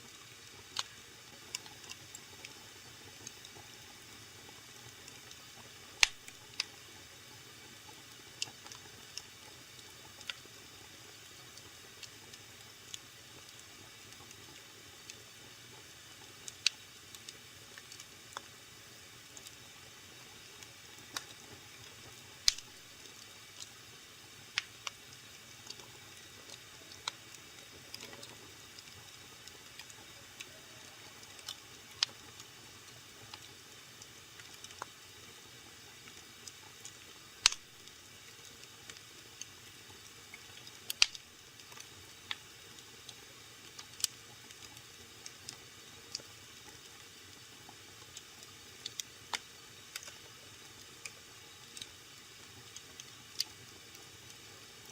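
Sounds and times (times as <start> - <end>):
wood fire crackling and popping: 0.3 - 3.8, 4.4 - 6.8, 7.6 - 10.7, 11.3 - 18.6, 19.3 - 54.9.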